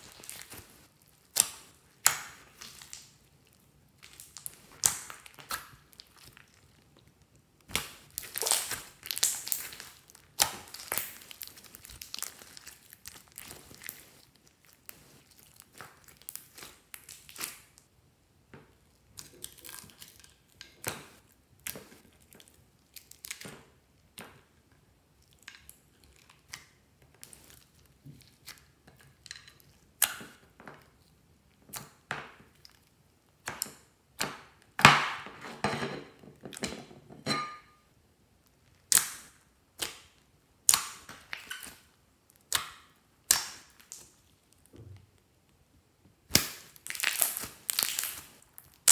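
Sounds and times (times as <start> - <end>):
slime squelch: 0.0 - 18.0, 18.7 - 34.8, 38.3 - 45.5, 46.2 - 48.9.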